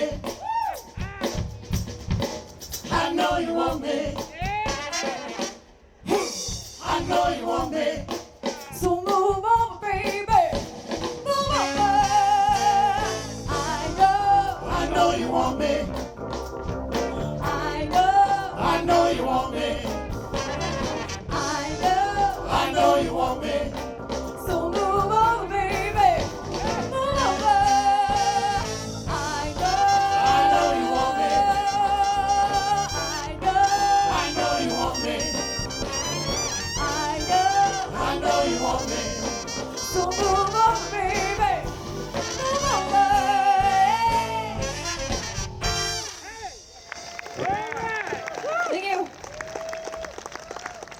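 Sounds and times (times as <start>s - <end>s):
soul band with horns playing: 0.0s - 50.9s.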